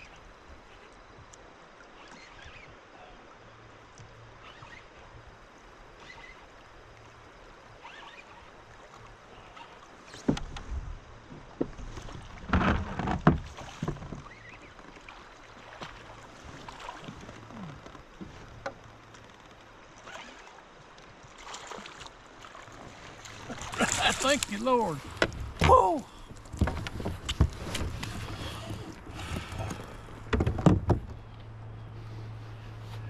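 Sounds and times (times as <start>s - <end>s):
quiet water around a kayak: 0.0s - 33.0s.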